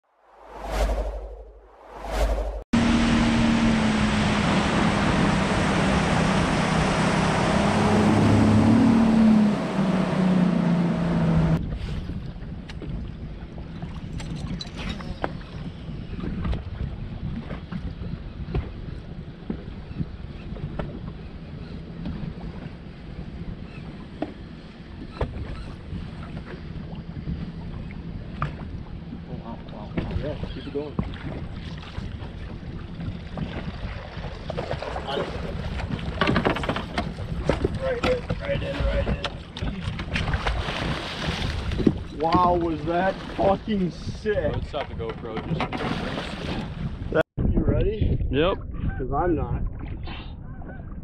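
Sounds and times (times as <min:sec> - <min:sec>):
wind and water rushing: 0:00.1 - 0:50.0
outboard motor running: 0:02.8 - 0:47.1.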